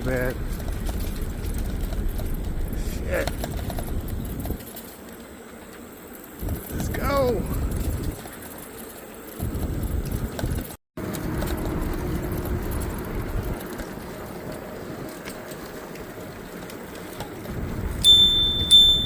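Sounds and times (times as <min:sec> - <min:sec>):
wind rumble on microphone: 0:00.0 - 0:04.6, 0:06.4 - 0:08.3, 0:09.4 - 0:19.0
bicycle tyre noise on trail: 0:00.0 - 0:19.0.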